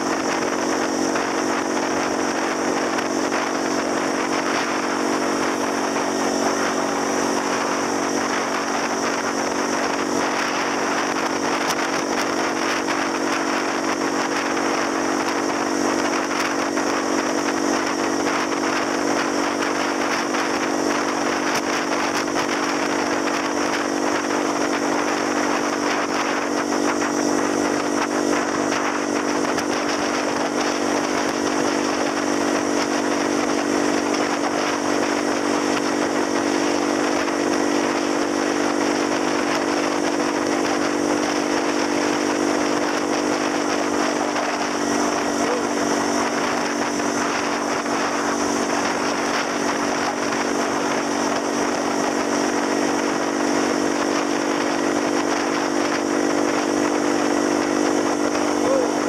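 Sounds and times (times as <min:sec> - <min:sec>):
motor scooter engine running: 0:00.0 - 0:59.0
wind and road noise: 0:00.0 - 0:59.0.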